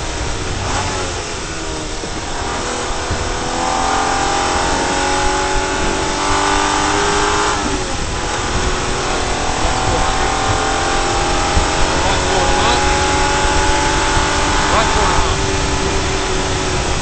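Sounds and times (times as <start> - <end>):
car engine accelerating: 0.0 - 17.0
road and wind noise: 0.0 - 17.0.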